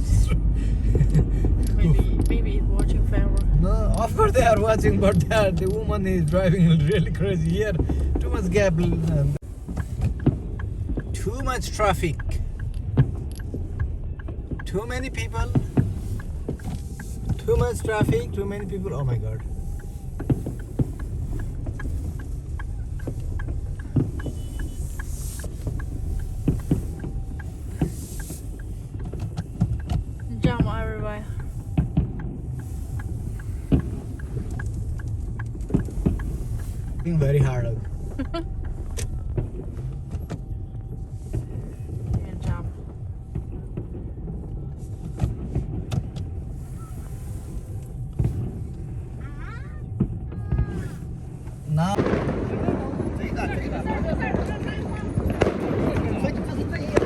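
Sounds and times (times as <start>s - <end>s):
fireworks and firecrackers banging: 0.0s - 57.0s
low rumble inside car: 0.0s - 57.0s.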